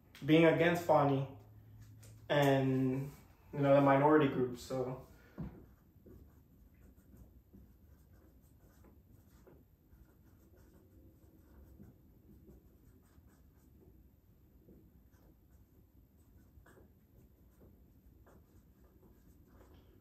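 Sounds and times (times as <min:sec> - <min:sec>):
marker writing on whiteboard: 0:00.3 - 0:20.0.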